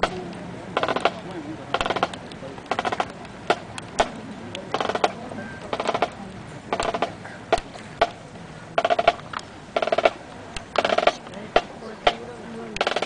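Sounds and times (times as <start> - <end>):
sharp drum clicks: 0.0 - 8.2, 8.8 - 13.0
snare drum rolls: 0.0 - 8.2, 8.8 - 13.0.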